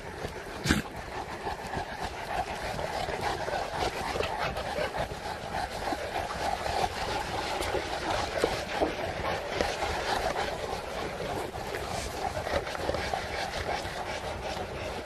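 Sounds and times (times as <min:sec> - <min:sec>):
dogs panting: 0:00.0 - 0:15.0
outdoor background noise: 0:00.0 - 0:15.0.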